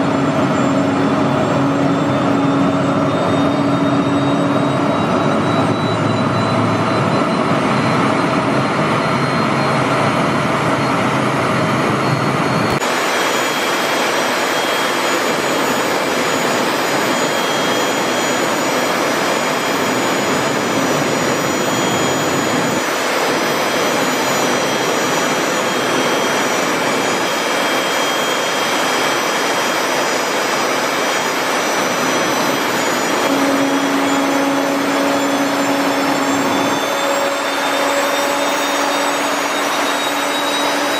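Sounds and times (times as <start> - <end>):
gas turbine jet roar and whine: 0.0 - 40.9.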